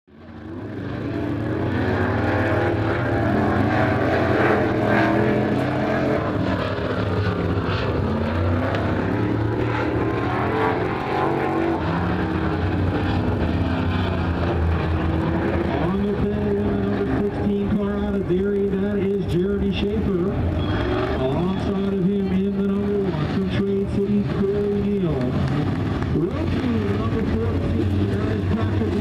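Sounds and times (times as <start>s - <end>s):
race car engines: 0.1s - 29.0s.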